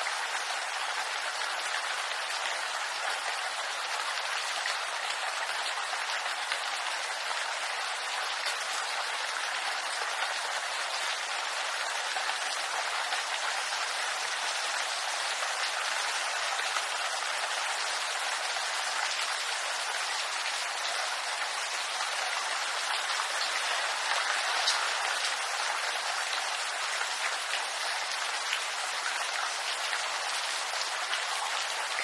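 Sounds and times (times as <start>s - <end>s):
rain on bamboo leaves: 0.0s - 32.0s.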